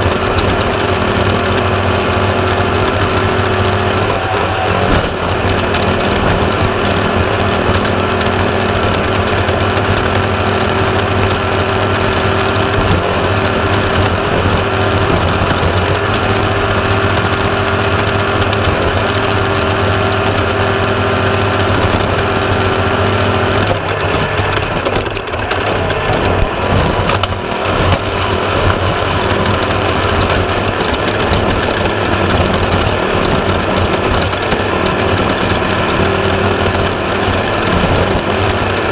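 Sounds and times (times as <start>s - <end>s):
race buggy engine revving: 0.0s - 38.9s.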